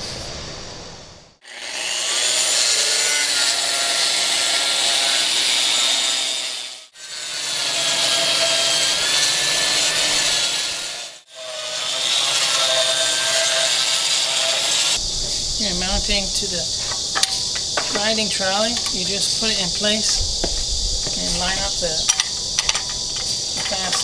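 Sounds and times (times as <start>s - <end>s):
concrete grinder grinding: 1.4s - 15.0s, 16.3s - 24.0s.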